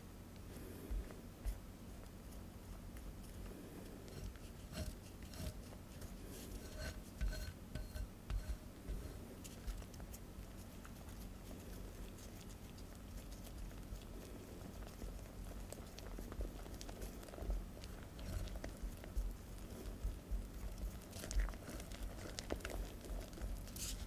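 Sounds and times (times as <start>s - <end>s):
utensil stirring batter in bowl: 0.5s - 24.0s.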